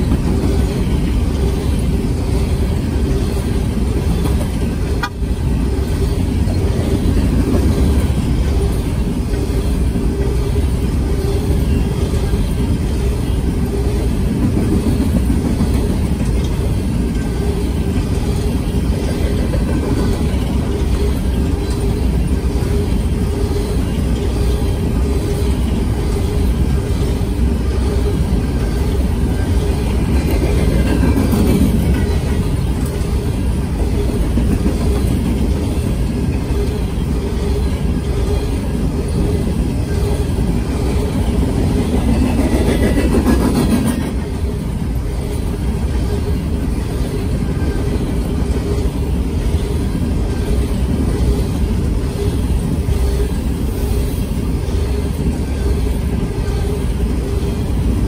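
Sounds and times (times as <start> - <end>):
freight train rolling past: 0.0 - 58.0
steel wheels rumbling on rails: 0.0 - 58.0.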